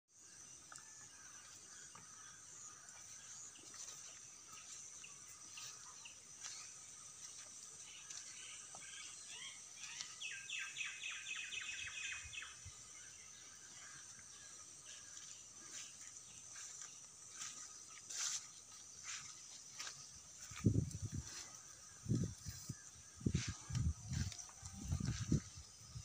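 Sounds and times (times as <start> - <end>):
bird chirps: 0.2 - 26.0.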